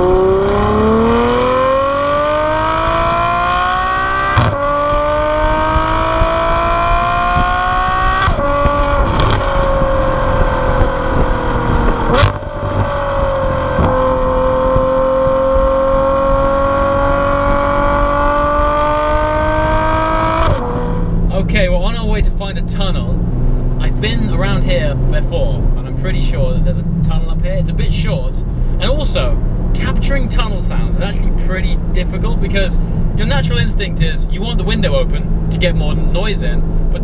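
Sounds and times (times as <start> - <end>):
car engine revving through exhaust: 0.0 - 37.0
exhaust crack: 0.0 - 37.0.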